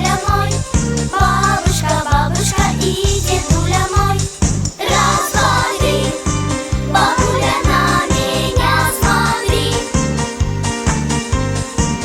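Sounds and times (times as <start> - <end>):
upbeat music with bass beat: 0.0 - 12.0.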